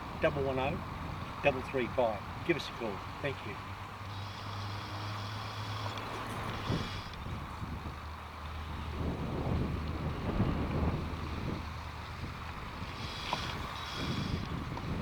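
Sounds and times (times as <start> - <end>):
steady low hum: 0.0 - 15.0
wind noise on microphone: 0.0 - 15.0.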